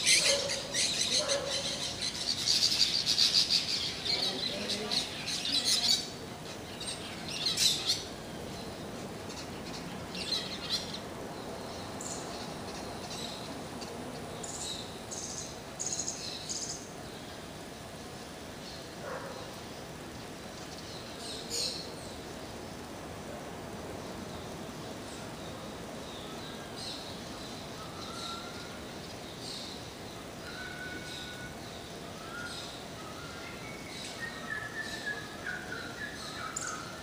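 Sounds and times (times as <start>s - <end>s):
background hiss: 0.0s - 37.0s
birds chirping: 0.0s - 37.0s.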